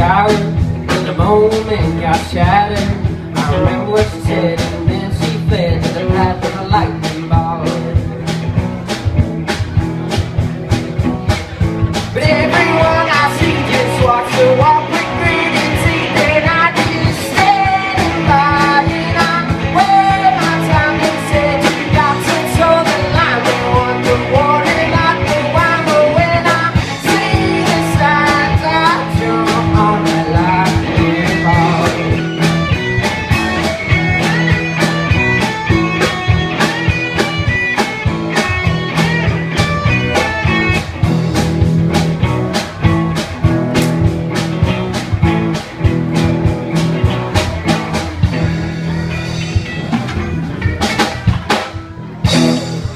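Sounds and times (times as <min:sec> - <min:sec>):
bass guitar: 0:00.0 - 0:52.9
electric guitar lead line: 0:00.0 - 0:52.9
fast drum beat: 0:00.0 - 0:52.9.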